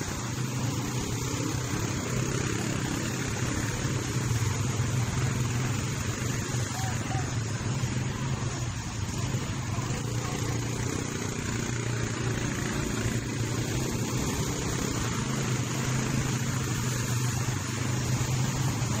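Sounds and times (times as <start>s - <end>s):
quad bike engines running: 0.0s - 19.0s.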